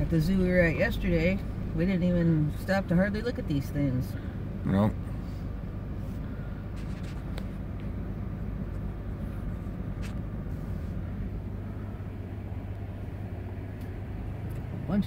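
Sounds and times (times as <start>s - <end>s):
car engine idling inside cabin: 0.0s - 15.0s.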